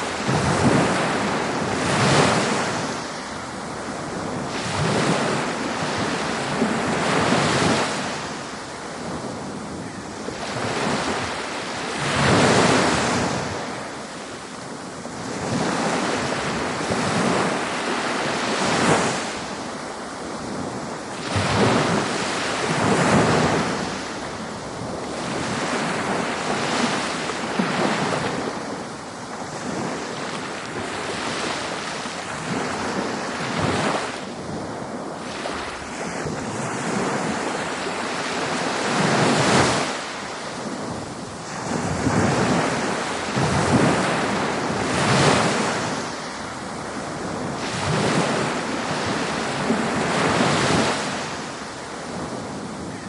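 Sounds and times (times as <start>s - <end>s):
ocean waves breaking: 0.0s - 53.0s
wind noise on microphone: 0.0s - 53.0s.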